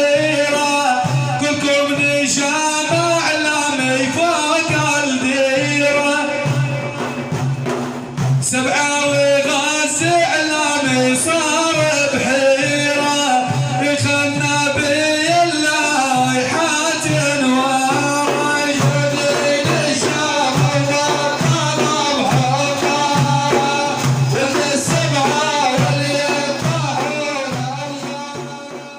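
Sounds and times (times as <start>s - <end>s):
person singing over a beat: 0.0s - 7.2s, 8.4s - 28.9s.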